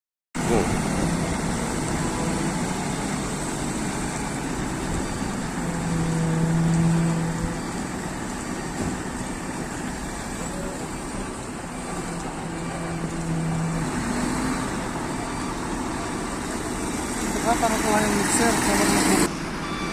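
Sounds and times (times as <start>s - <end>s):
engine running: 0.4s - 19.9s.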